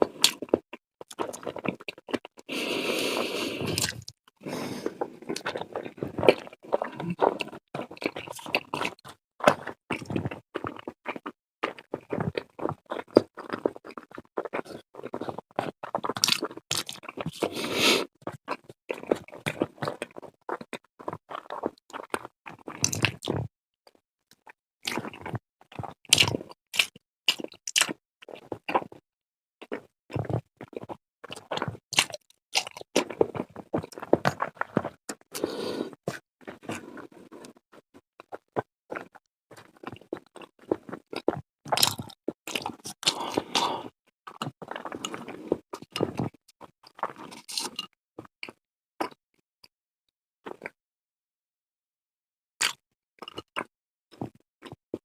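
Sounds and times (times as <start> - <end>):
crunchy wet mouth sounds: 0.0 - 23.5, 24.4 - 29.0, 29.7 - 37.6, 38.2 - 49.2, 50.5 - 50.8, 52.6 - 54.8
person chewing food: 0.0 - 29.0, 29.6 - 49.2, 50.5 - 50.7, 52.6 - 54.8.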